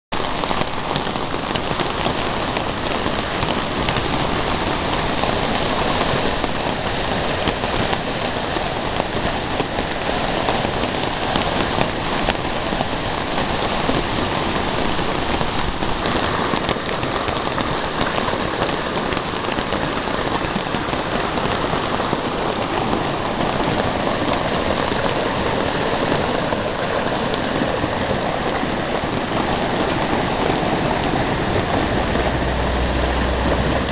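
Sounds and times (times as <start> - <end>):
flooded creek rushing: 0.1 - 33.9.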